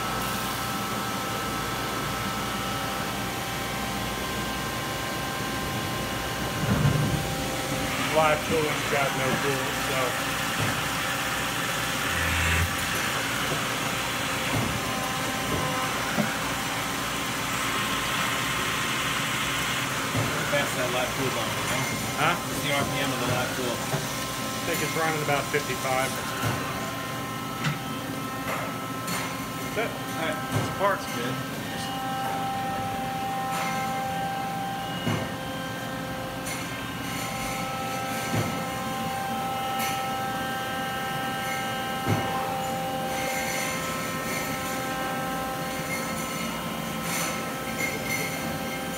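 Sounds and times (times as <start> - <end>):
machine hiss and hum: 0.0 - 48.9.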